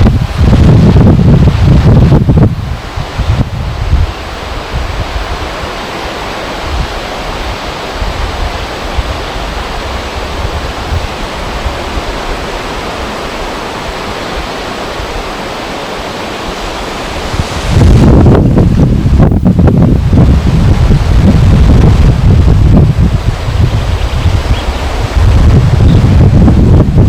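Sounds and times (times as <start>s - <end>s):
rushing water: 0.0s - 27.0s
wind buffeting microphone: 0.0s - 27.0s.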